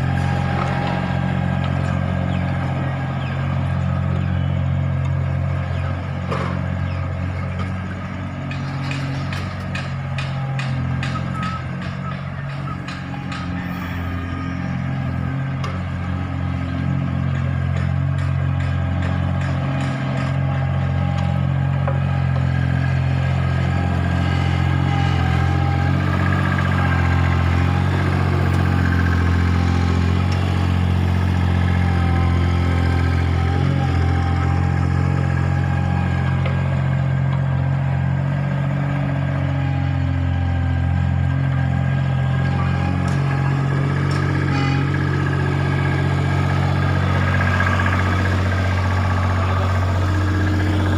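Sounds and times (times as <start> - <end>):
vehicle engine idling: 0.0 - 50.9.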